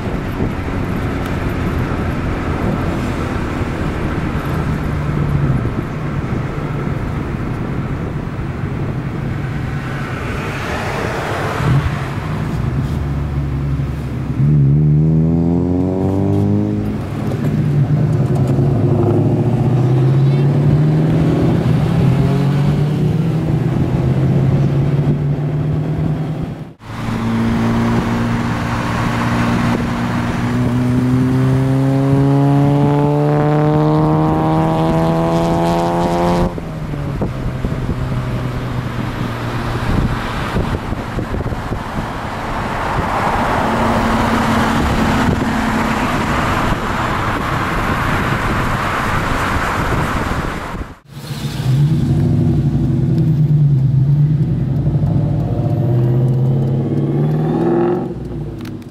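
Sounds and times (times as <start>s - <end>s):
car engine accelerating: 0.0s - 58.9s
road and wind noise: 0.0s - 58.9s.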